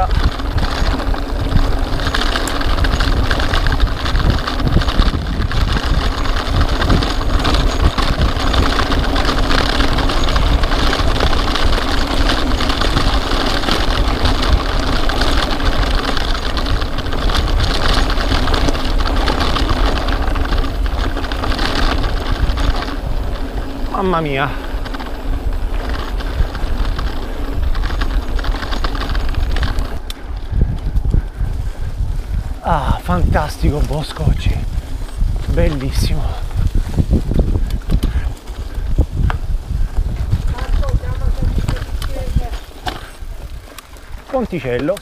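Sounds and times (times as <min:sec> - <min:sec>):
bike frame rattling: 0:00.0 - 0:45.0
tyres rumbling on dirt and gravel: 0:00.0 - 0:45.0.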